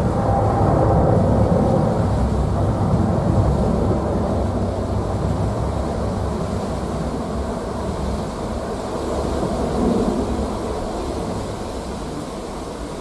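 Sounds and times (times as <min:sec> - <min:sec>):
jet engines rumbling at takeoff: 0:00.0 - 0:13.0.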